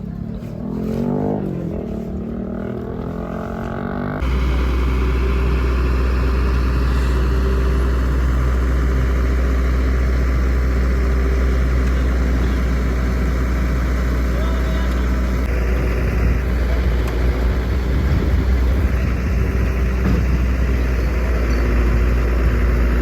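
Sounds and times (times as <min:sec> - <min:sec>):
heavy vehicle engine running: 0:00.0 - 0:23.0.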